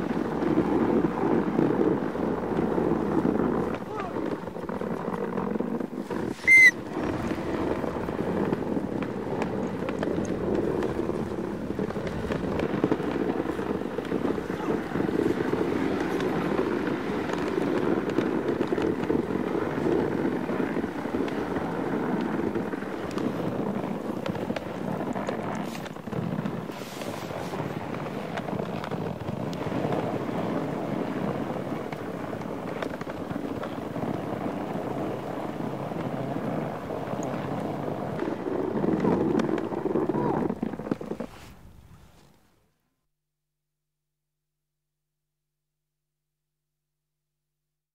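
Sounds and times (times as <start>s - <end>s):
sled rushing over snow: 0.0s - 42.6s.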